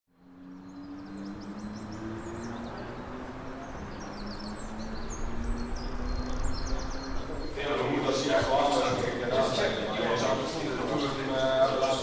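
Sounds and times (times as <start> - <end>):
distant engine hum: 0.1 - 12.0
small birds chirping: 0.1 - 12.0.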